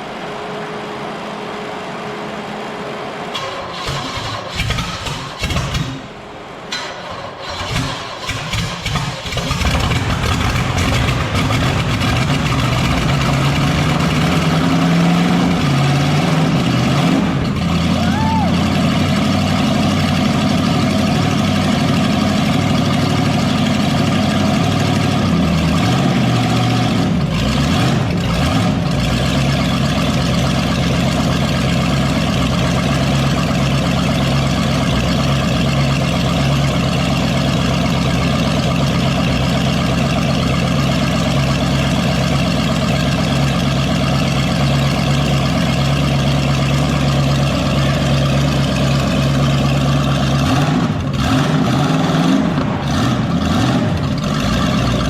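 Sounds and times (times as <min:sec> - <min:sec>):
car engine running loud: 0:00.0 - 0:55.0.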